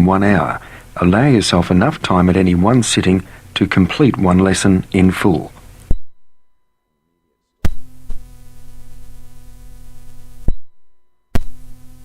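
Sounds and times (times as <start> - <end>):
electrical hum: 0.0 - 12.0
tape hiss: 0.0 - 12.0.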